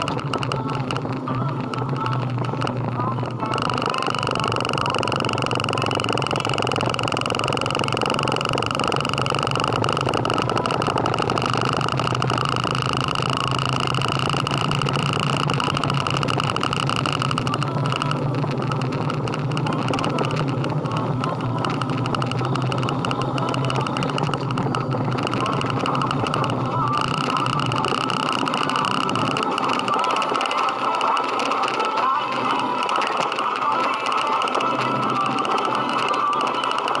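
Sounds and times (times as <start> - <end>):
road and wind noise: 0.0 - 36.9
motorcycle engine running: 0.0 - 37.0.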